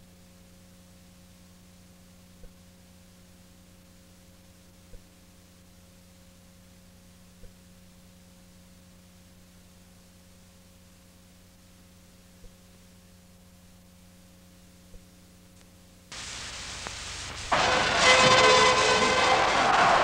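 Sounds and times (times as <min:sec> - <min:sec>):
low electrical hum: 0:00.0 - 0:20.0
tape hiss: 0:00.0 - 0:20.0.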